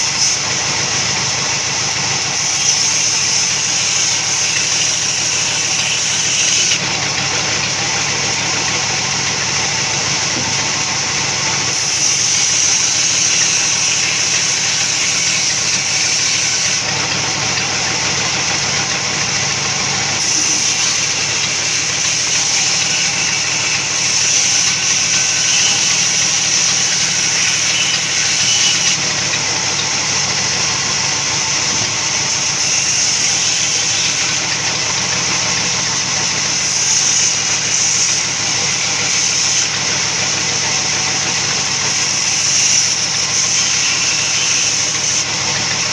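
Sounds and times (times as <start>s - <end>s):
sawmill machinery drone: 0.0s - 45.9s.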